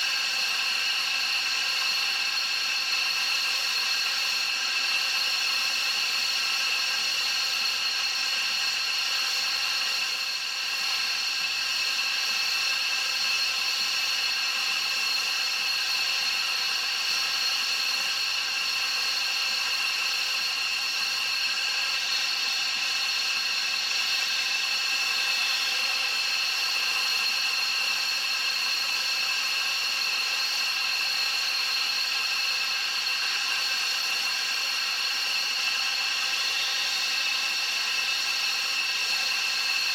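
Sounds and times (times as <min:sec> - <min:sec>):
turbine engine whine: 0:00.1 - 0:39.9.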